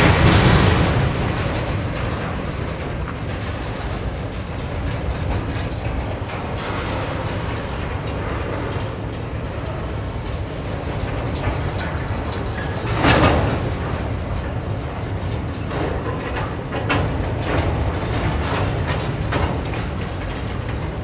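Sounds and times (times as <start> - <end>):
freight train rumbling past: 0.0 - 21.0
wheels clicking over rail joints: 0.0 - 21.0.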